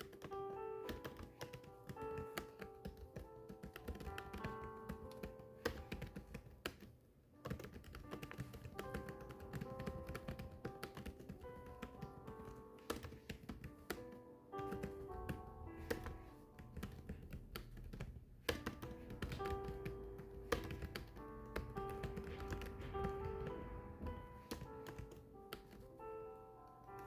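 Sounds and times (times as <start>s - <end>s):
keyboard typing: 0.0s - 26.2s
soft background music: 0.0s - 27.0s.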